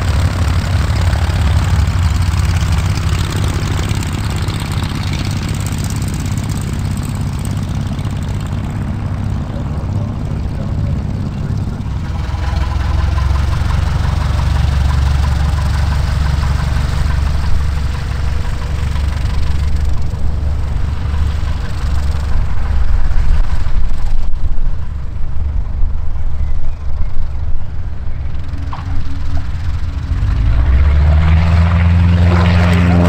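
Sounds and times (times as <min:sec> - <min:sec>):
propeller aircraft engine rumbling: 0:00.0 - 0:33.0.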